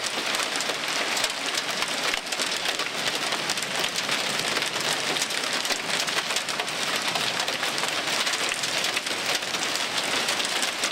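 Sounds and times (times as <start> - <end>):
heavy rain and hail hissing: 0.0 - 10.9
ticks of hail impacts: 0.0 - 10.9.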